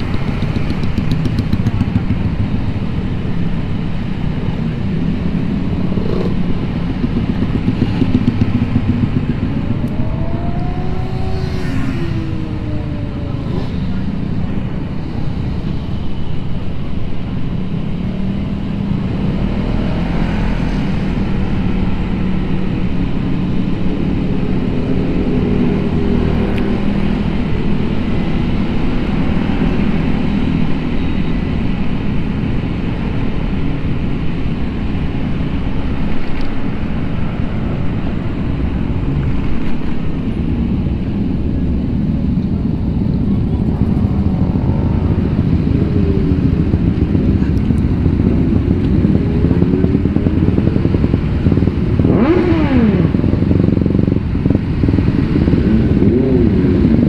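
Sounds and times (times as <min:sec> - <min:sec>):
passing motorcycles and cars: 0:00.0 - 0:57.0
road and wind noise: 0:00.0 - 0:57.0.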